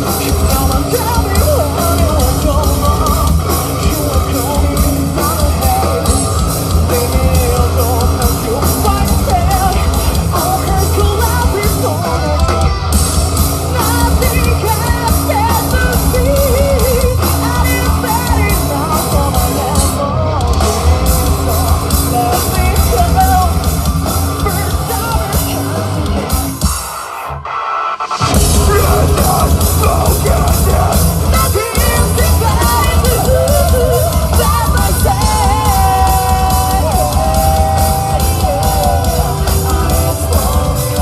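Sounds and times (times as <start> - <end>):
person singing and shouting: 0.0 - 13.0, 13.7 - 26.3, 28.3 - 41.0
live rock band playing: 0.0 - 41.0.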